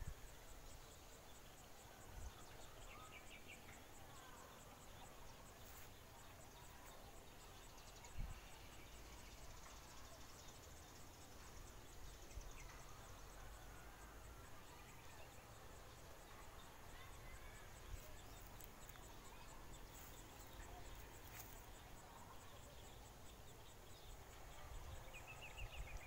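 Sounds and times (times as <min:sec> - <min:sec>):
faint bird chirps: 0:00.0 - 0:26.0
insects chirping: 0:00.0 - 0:26.0.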